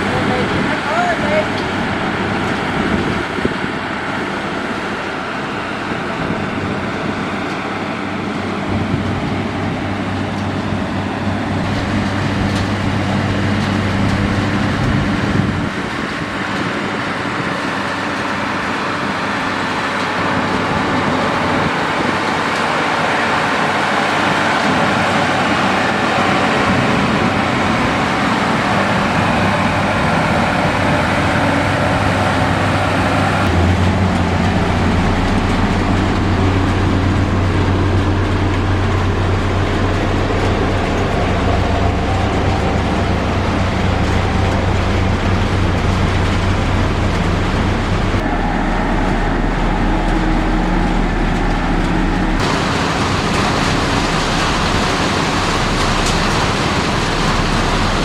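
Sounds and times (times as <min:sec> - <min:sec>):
diesel construction machinery running: 0:00.0 - 0:58.0.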